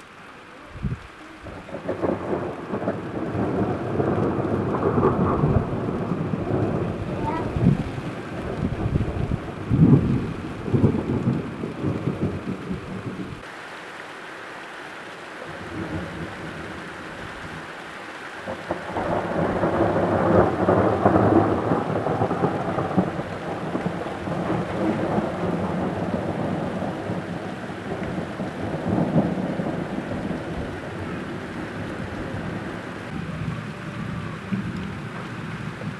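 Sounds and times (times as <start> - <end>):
steady rain: 0.0 - 35.9
thunder rolling: 0.8 - 13.4, 18.4 - 35.9.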